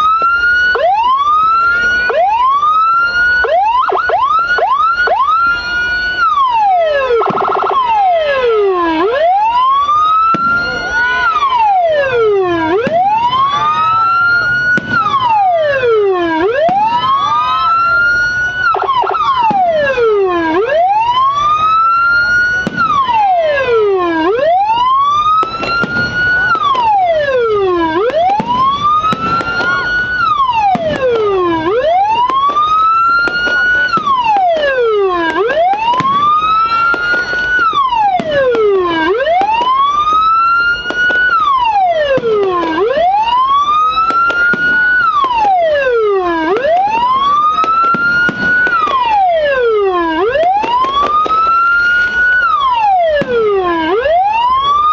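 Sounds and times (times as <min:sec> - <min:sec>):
electronic siren wailing: 0:00.0 - 0:54.9
fast siren yelp: 0:00.0 - 0:54.9.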